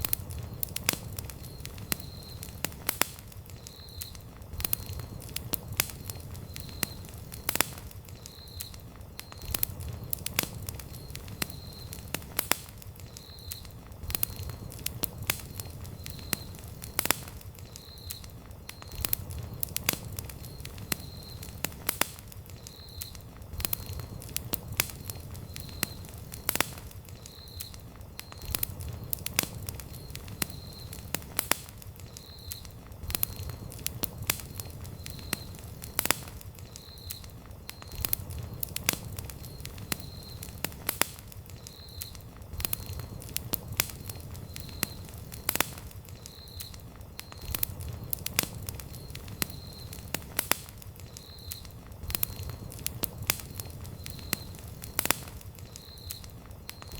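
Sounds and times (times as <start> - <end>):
campfire crackling and popping: 0.0 - 56.9
low rumble of flames: 0.0 - 56.9.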